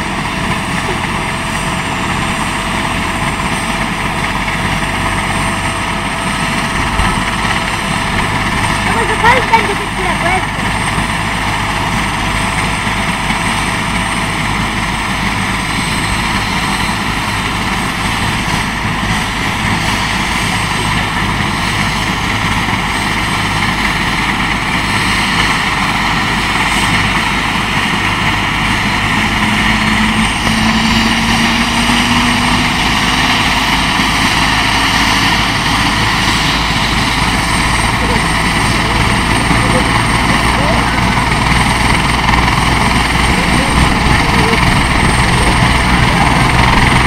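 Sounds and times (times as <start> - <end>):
helicopter engine and rotor: 0.0 - 47.0.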